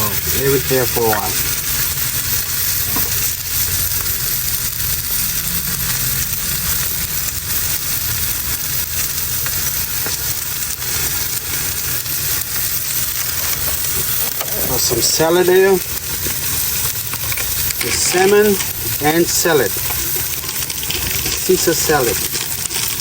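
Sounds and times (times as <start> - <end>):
fish sizzling in a pan: 0.0 - 23.0.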